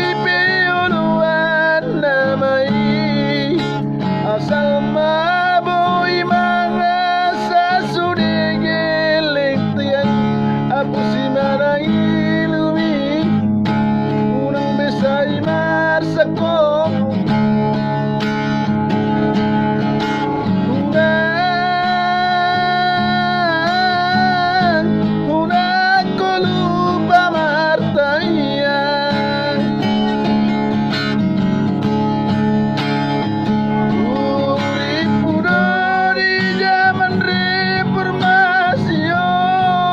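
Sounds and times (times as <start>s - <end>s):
acoustic guitar: 0.0s - 39.9s.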